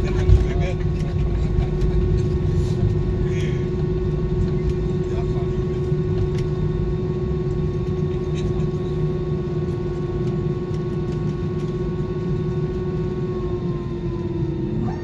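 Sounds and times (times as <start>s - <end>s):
airliner cabin hum and rumble: 0.0s - 15.0s.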